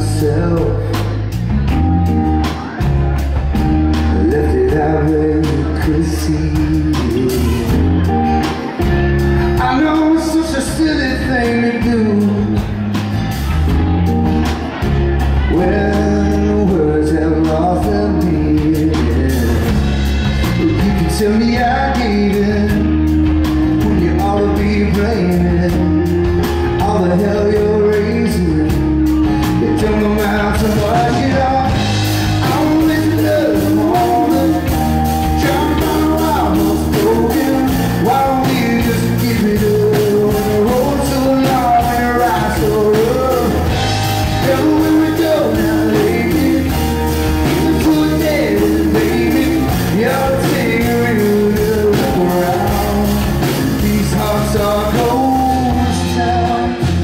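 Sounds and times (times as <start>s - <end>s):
bass guitar: 0.0s - 57.0s
drums: 0.0s - 57.0s
electric guitar: 0.0s - 57.0s
man singing: 0.0s - 57.0s.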